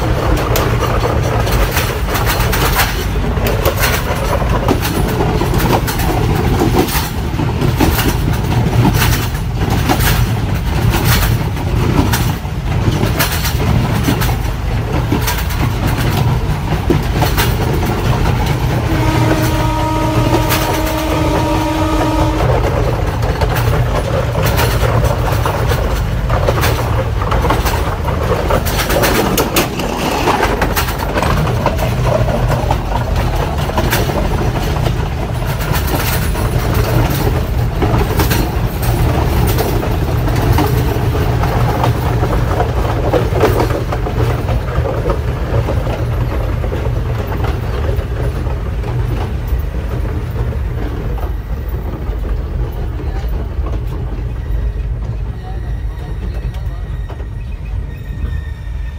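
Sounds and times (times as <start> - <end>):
wheel and carriage clicks and rattles: 0.0 - 55.2
train rumble on rails: 0.0 - 58.9.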